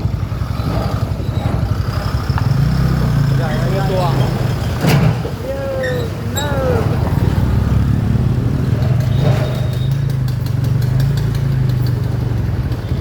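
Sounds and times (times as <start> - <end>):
motorcycle engine running: 0.0 - 5.4, 6.1 - 13.0.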